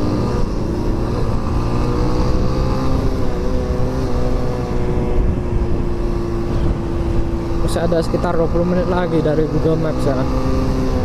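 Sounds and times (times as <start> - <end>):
wind on microphone: 0.0 - 9.8
motorcycle engine running: 0.0 - 11.0
road rumble: 0.0 - 11.0.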